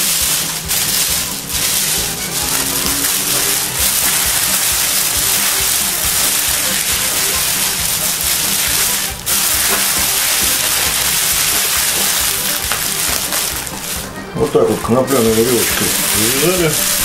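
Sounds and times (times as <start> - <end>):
background music: 0.0 - 17.0
plastic bag crinkling: 0.0 - 17.0.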